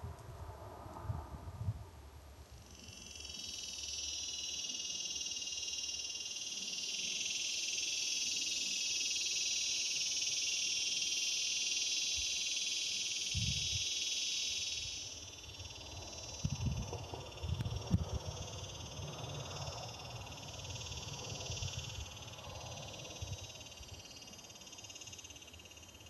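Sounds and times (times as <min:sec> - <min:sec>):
cicada buzzing: 0:02.6 - 0:26.0.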